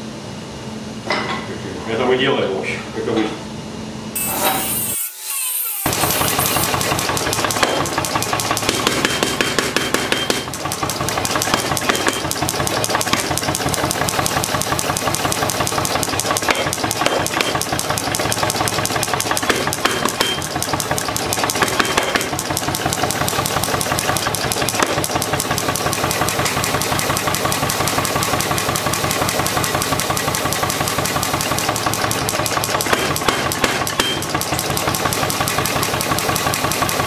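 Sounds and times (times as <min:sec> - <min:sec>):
power hammer striking steel: 0:04.2 - 0:37.0.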